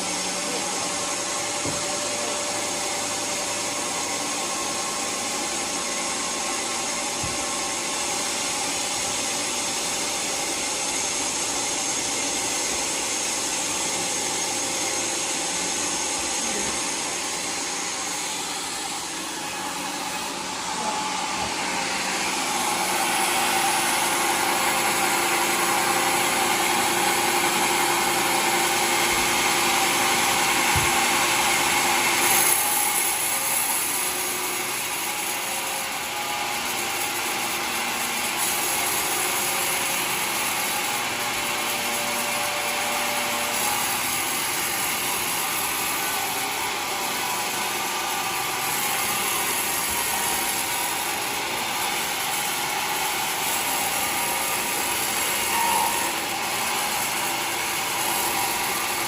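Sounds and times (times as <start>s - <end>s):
sawmill machine hum: 0.0s - 59.0s.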